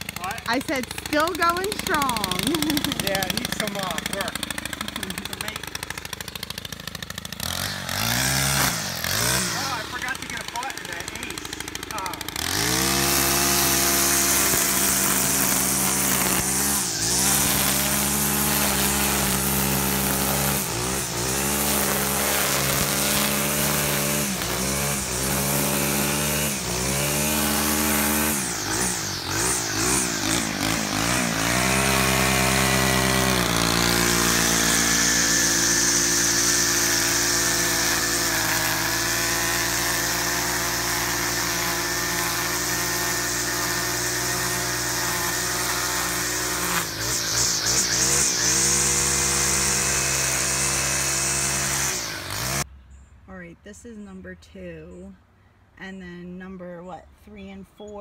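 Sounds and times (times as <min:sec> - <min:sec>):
string trimmer engine cutting grass: 0:00.0 - 0:52.7.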